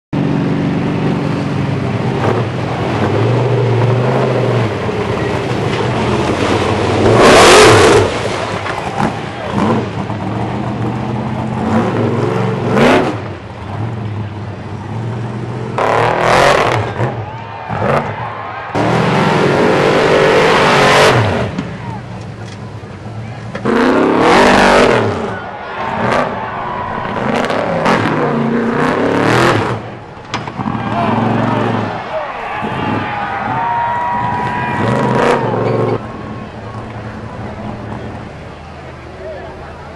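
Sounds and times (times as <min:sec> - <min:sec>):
truck engine revving: 0:00.2 - 0:39.9.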